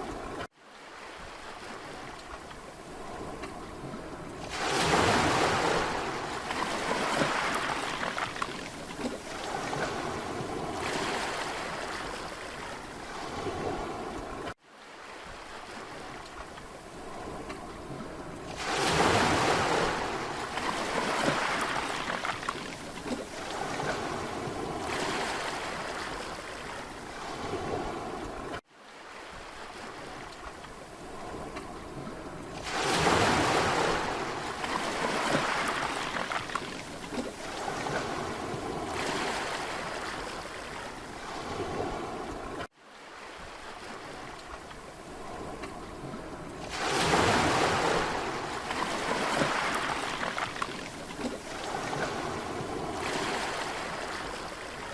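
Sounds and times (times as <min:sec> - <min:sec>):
waves breaking on beach: 0:00.0 - 0:54.9.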